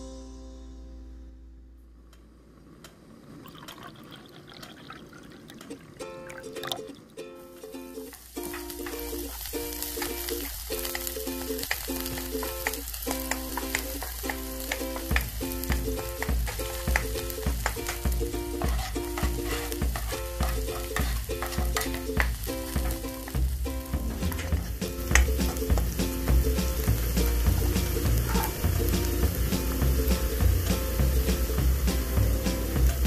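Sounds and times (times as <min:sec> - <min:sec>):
light strummed background music: 0:00.0 - 0:01.5, 0:06.0 - 0:33.0
food sizzling in a pan: 0:03.5 - 0:33.0.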